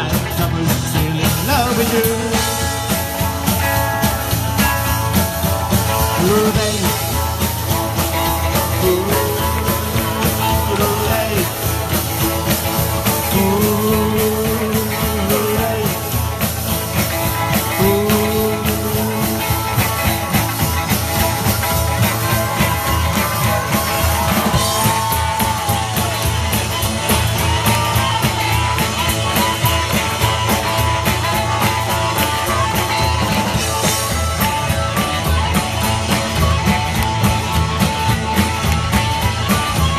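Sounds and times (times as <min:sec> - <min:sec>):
drums: 0:00.0 - 0:39.9
guitars: 0:00.0 - 0:39.9
slapped upright bass: 0:00.0 - 0:39.9
blues harmonica solo: 0:02.1 - 0:39.9.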